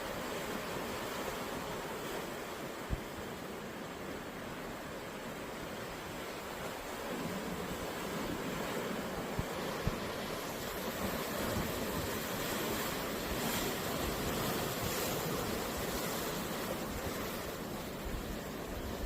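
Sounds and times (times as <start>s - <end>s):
sea waves washing onto beach: 0.0s - 19.0s
wind rumble on microphone: 0.1s - 19.0s.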